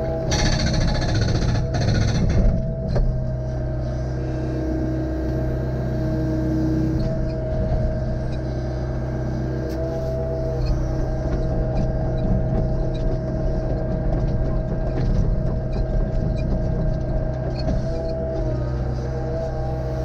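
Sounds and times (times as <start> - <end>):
excavator engine running: 0.0 - 20.0
steady whine: 0.0 - 20.0.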